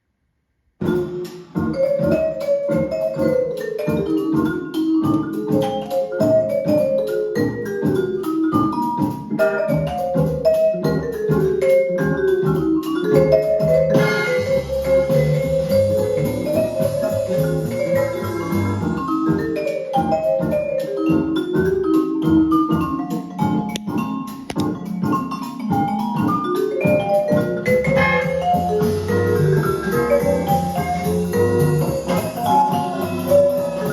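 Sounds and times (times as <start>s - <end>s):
mallet percussion music from a record: 0.8s - 33.9s.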